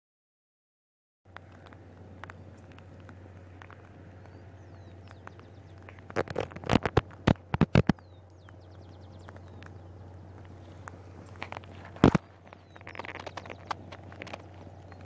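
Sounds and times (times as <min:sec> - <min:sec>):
campfire crackling: 0:01.3 - 0:15.0
small birds chirping: 0:01.3 - 0:15.0
steady low hum: 0:01.3 - 0:15.0.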